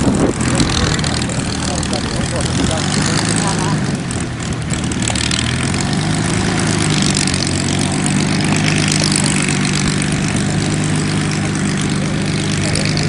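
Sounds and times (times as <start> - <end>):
piston aircraft engine droning: 0.0 - 13.0.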